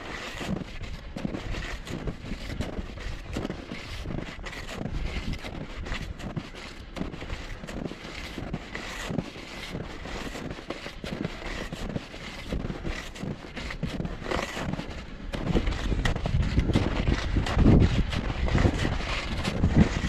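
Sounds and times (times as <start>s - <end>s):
skis moving over snow: 0.0s - 20.0s
wind rumble on microphone: 0.0s - 20.0s.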